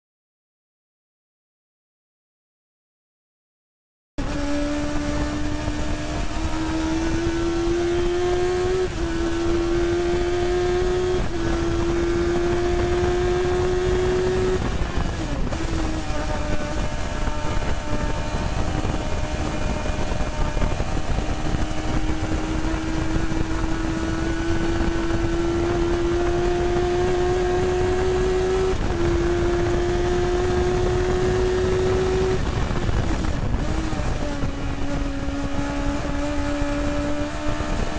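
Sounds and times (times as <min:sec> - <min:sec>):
racing car engine revving: 0:04.2 - 0:37.9.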